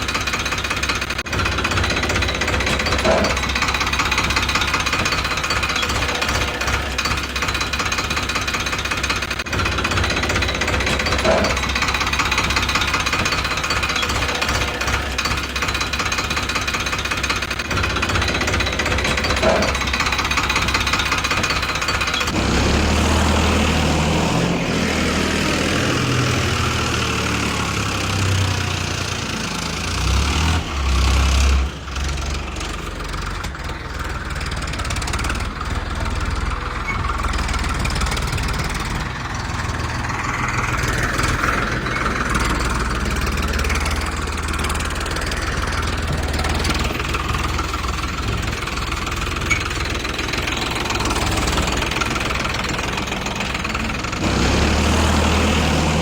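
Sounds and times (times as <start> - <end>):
tractor engine humming: 0.0 - 56.0.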